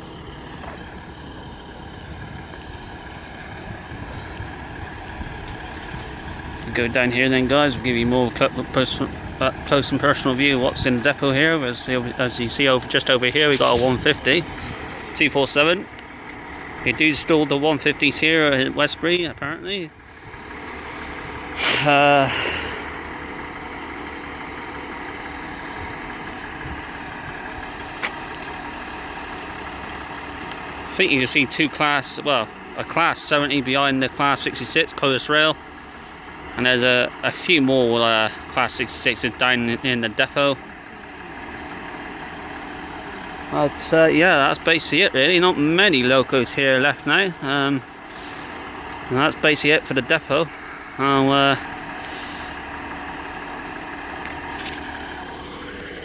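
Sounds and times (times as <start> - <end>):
diesel rail engine idling: 0.0 - 56.0.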